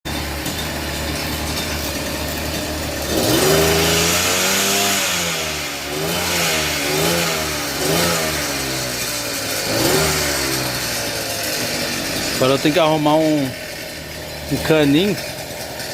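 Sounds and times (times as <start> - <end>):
small gasoline engine revving: 0.1 - 15.9.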